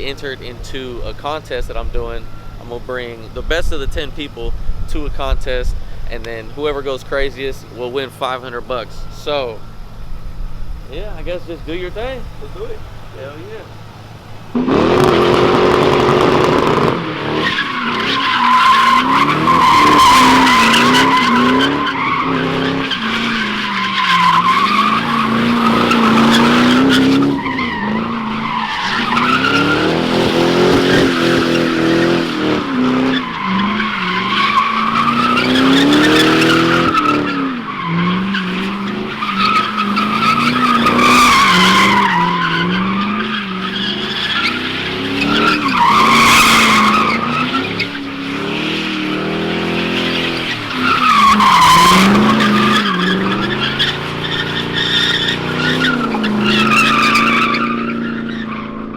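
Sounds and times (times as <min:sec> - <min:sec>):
car engine revving: 0:00.0 - 0:58.9
tyres squealing: 0:10.8 - 0:58.9.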